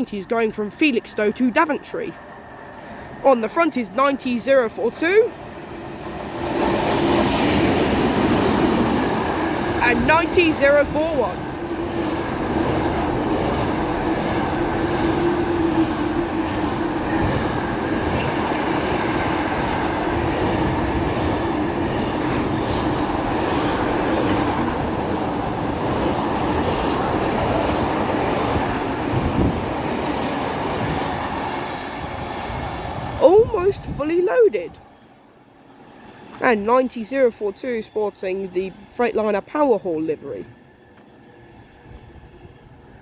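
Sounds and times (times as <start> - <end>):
train wheels rumbling on track: 0.0 - 34.7.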